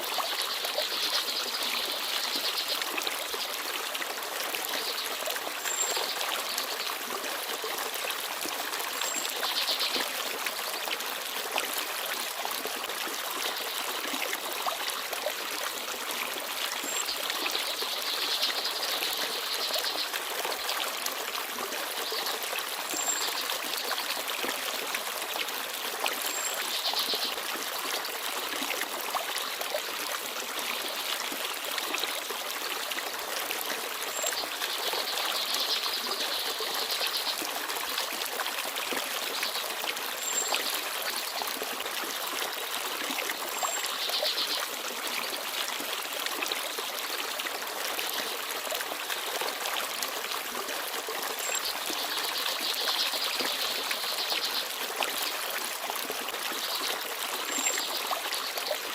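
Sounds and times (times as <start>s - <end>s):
stream babbling over rocks: 0.0s - 58.9s.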